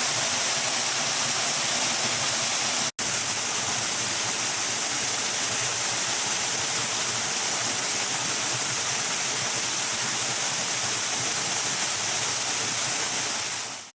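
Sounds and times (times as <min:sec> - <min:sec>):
waterfall: 0:00.0 - 0:13.9.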